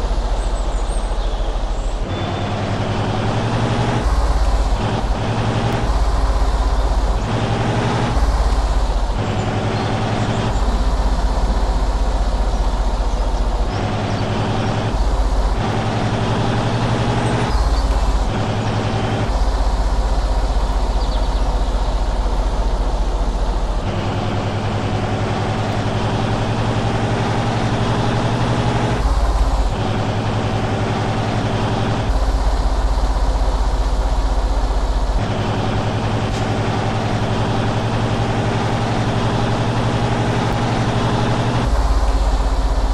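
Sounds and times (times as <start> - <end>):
truck engine droning: 0.0 - 42.9.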